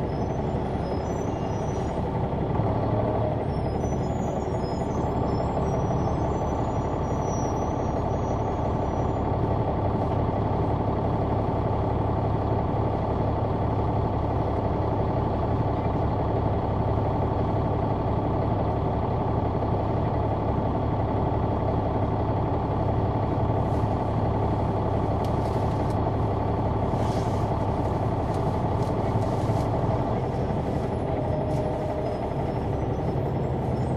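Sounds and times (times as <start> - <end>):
bus diesel engine droning: 0.0 - 33.9.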